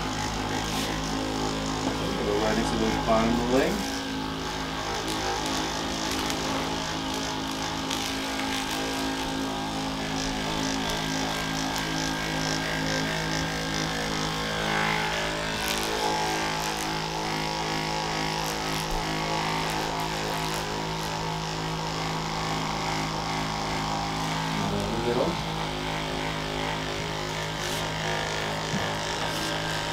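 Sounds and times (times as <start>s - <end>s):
massage gun motor humming: 0.0s - 29.9s.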